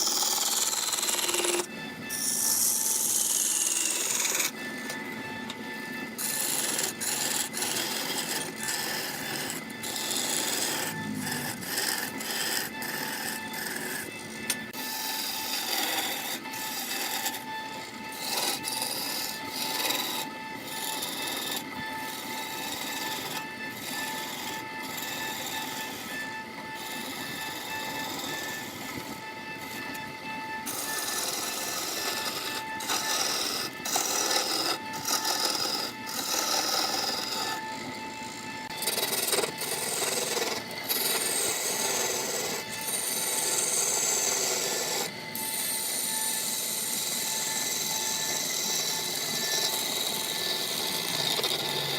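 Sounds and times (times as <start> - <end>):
wood scraping on a lathe: 0.0 - 51.9.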